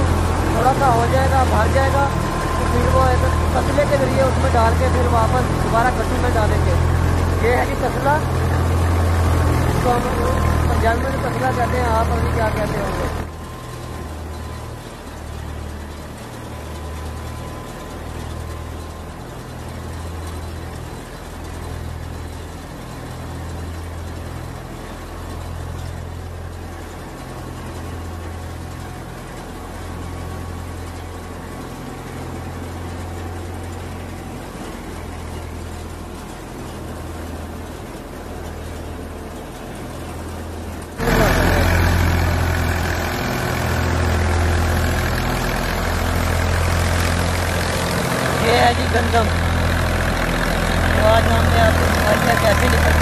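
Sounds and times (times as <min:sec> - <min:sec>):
threshing machine droning: 0:00.0 - 0:53.0.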